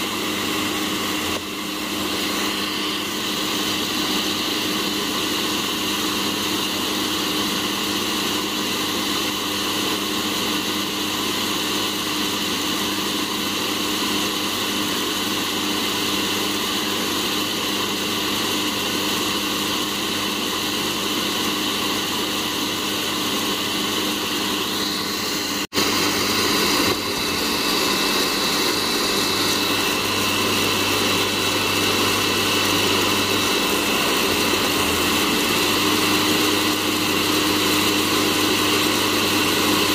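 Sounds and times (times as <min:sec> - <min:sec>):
coffee roaster fan whirring: 0:00.0 - 0:22.0, 0:22.6 - 0:39.9.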